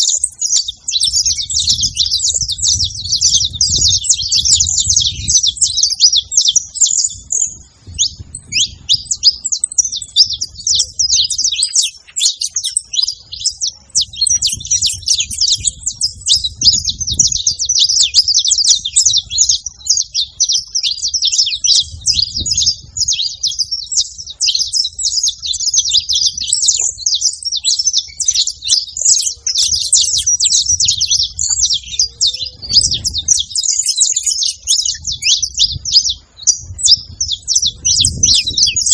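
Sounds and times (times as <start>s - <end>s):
finch singing high chirps: 0.0s - 38.9s.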